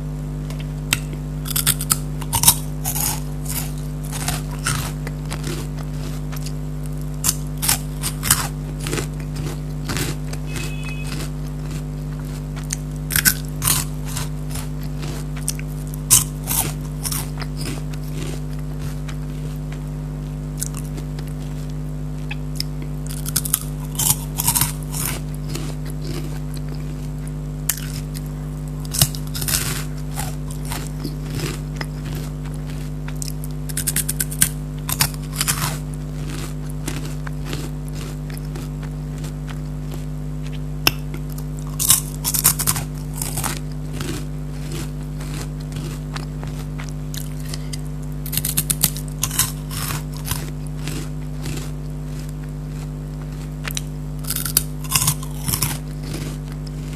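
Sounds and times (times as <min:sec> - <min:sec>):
steady low hum: 0:00.0 - 0:56.9
crunchy snack chewing: 0:00.4 - 0:56.9.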